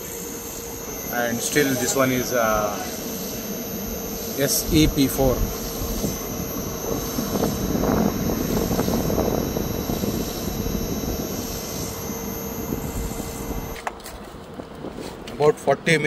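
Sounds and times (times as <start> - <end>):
outdoor unit humming and whining: 0.0 - 16.0.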